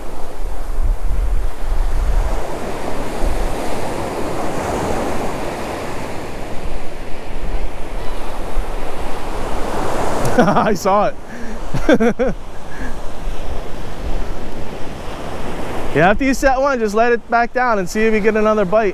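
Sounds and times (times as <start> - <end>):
ocean surf breaking: 0.0 - 18.9
wind buffeting microphone: 0.0 - 18.9.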